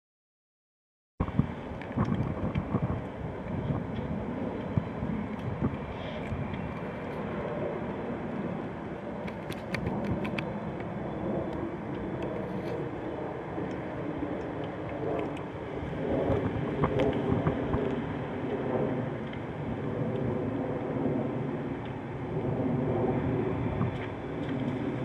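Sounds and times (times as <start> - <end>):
wind on microphone: 1.2 - 25.0.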